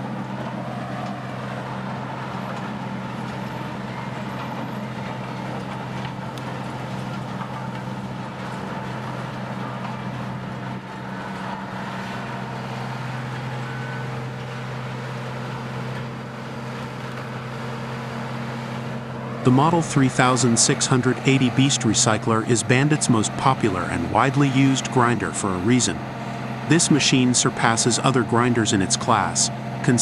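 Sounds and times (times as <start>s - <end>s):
noisy churning: 0.0s - 30.0s
tree grinder engine droning: 0.0s - 30.0s.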